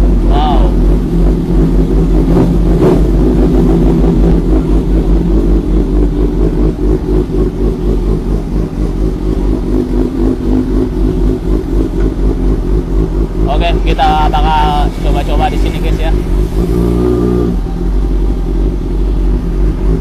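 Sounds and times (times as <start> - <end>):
motorcycle engine at low revs: 0.0 - 20.0.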